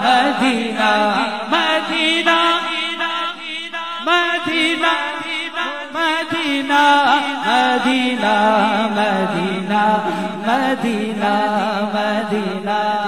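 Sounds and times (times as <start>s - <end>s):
men singing unaccompanied: 0.0s - 13.0s.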